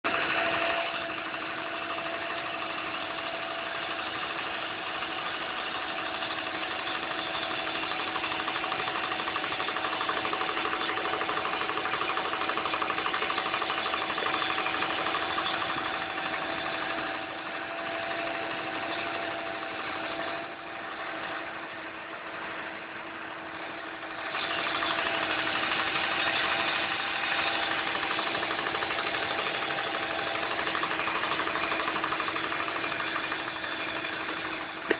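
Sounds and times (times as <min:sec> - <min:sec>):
car engine idling with ticking: 0:00.1 - 0:34.9.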